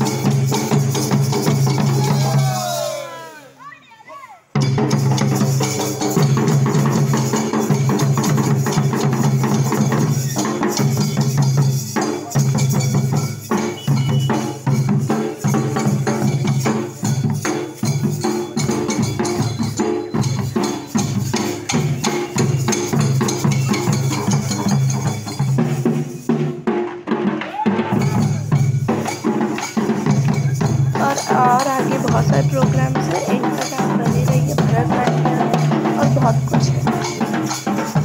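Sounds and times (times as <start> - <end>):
barrel drums beaten with sticks: 0.0 - 2.7, 4.6 - 38.0
metal hand percussion: 0.0 - 2.7, 4.6 - 38.0.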